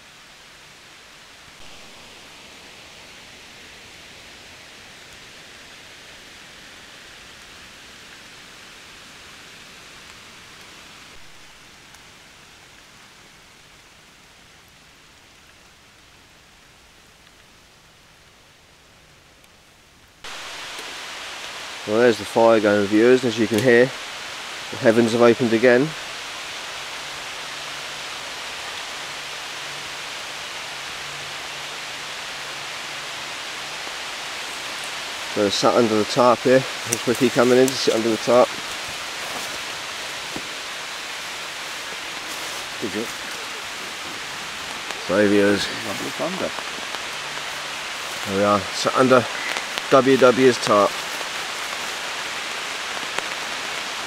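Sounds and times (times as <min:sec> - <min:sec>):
rain hissing on leaves: 0:00.0 - 0:54.0.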